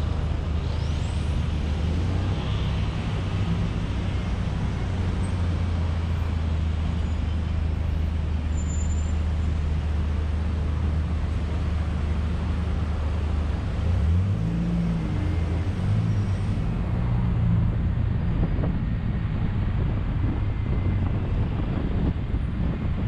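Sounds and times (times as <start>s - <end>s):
road vehicle rumble: 0.0s - 23.0s.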